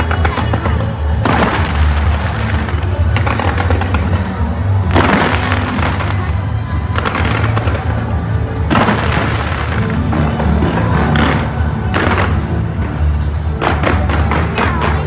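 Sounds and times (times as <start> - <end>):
fireworks bursting and crackling: 0.0 - 15.0
music with heavy bass: 0.0 - 15.0.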